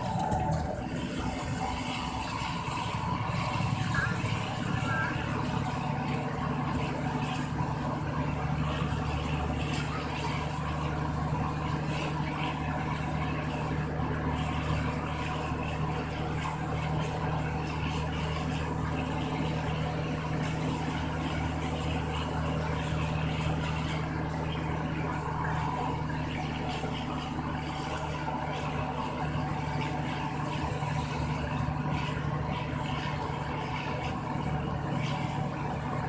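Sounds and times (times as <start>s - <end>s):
truck engine running: 0.0s - 36.0s.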